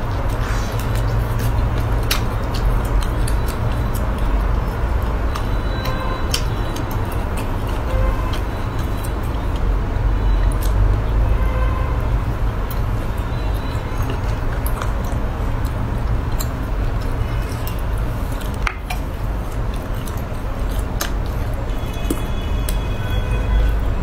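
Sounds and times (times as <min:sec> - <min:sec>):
wet chewing and biting: 0:00.0 - 0:11.0, 0:12.0 - 0:24.0
sharp mouth clicks: 0:00.2 - 0:09.7, 0:12.7 - 0:22.8.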